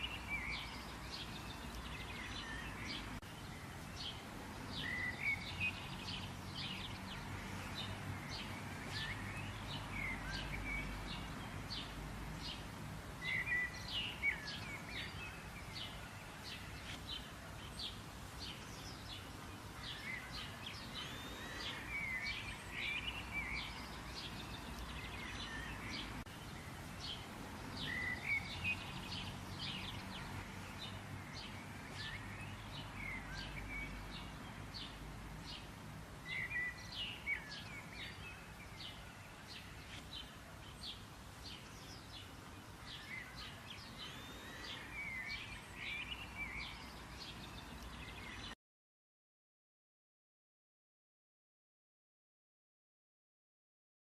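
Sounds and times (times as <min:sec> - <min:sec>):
songbirds chirping: 0:00.0 - 0:48.6.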